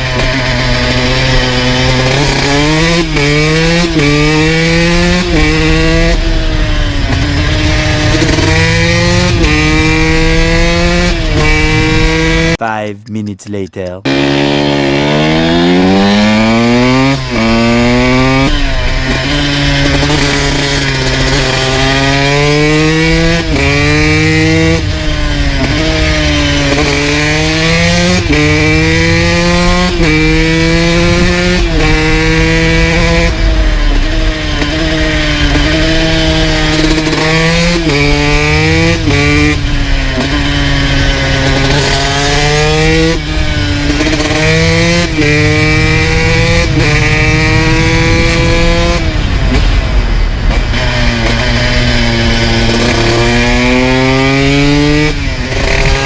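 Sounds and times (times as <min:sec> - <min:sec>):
motorcycle engine revving: 0:00.0 - 0:12.6, 0:14.0 - 0:56.0
wind rumble: 0:00.1 - 0:12.6, 0:14.2 - 0:56.0.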